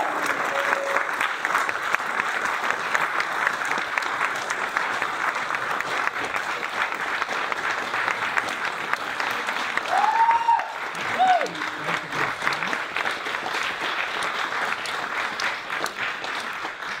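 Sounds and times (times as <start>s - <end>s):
audience clapping: 0.0s - 17.0s.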